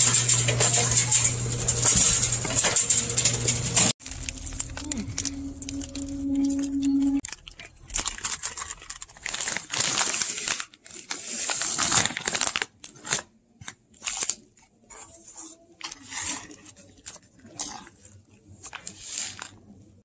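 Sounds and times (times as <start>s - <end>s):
plastic bags crinkling: 0.0s - 20.0s.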